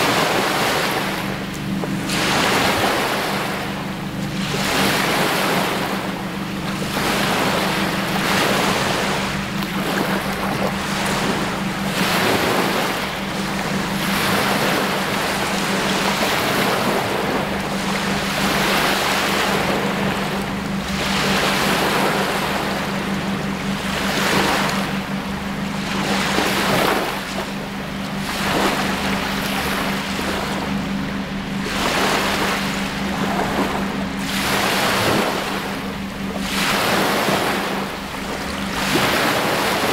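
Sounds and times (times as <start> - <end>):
lake waves lapping on shore: 0.0 - 39.9
steady low hum: 0.0 - 39.9.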